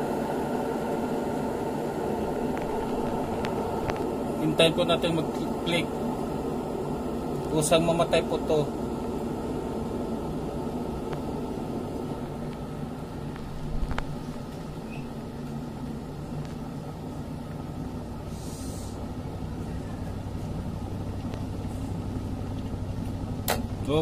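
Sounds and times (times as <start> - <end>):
kettle water boiling: 0.0 - 24.0.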